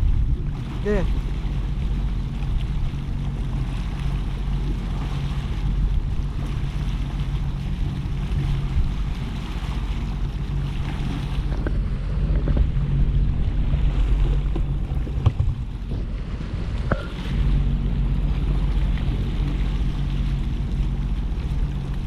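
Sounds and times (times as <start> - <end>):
jet ski engine idling: 0.0 - 22.0
sea waves washing: 0.0 - 22.0
wind on microphone: 0.0 - 22.0.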